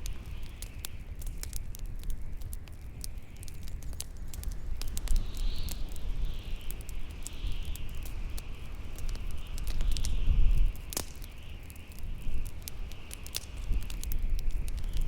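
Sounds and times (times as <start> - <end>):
bonfire crackling and popping: 0.0 - 15.0
low rumble of wind: 0.0 - 15.0.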